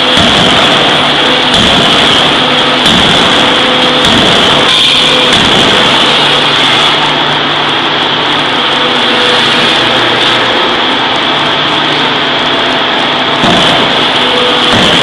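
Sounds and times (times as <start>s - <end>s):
machinery high whine: 0.0s - 15.0s
machinery low hum: 0.0s - 15.0s.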